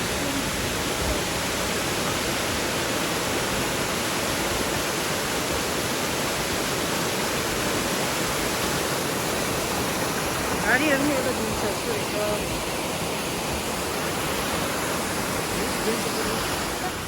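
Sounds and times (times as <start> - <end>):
small waterfall rushing: 0.0 - 17.0.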